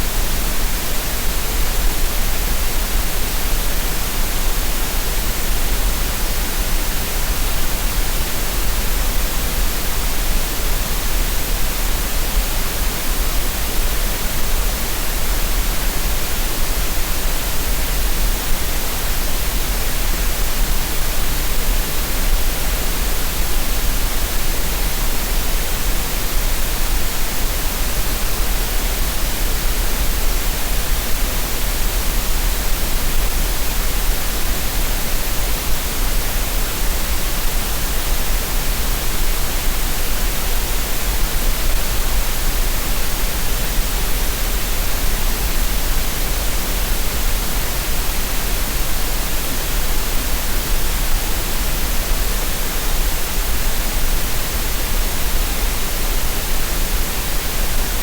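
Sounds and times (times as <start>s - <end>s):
steady synthetic noise hiss: 0.0s - 58.0s.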